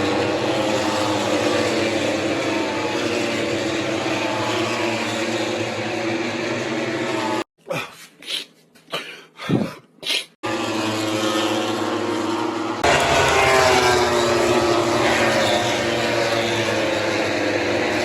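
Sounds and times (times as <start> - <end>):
racing motorcycles at high revs: 0.0 - 7.5, 10.4 - 18.0.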